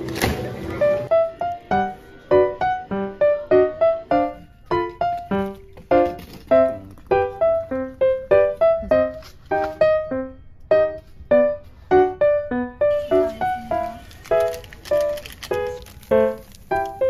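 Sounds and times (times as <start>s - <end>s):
light keyboard melody: 0.0s - 17.0s.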